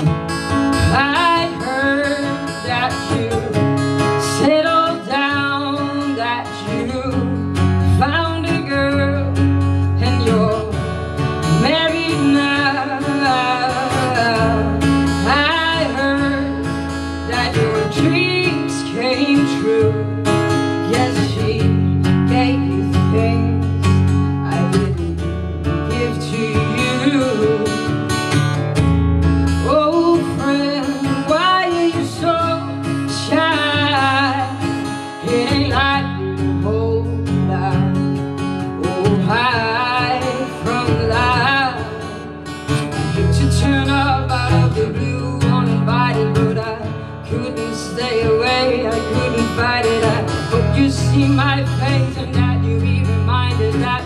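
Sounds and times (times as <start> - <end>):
acoustic guitar: 0.0 - 54.0
woman singing: 0.0 - 54.0.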